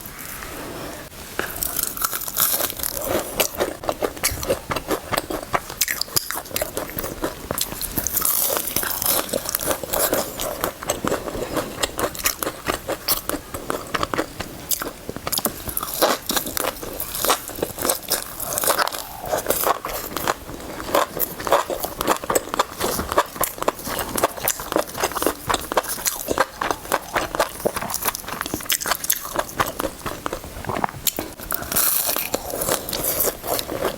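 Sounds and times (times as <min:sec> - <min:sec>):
crunchy chewing: 0:01.4 - 0:33.9.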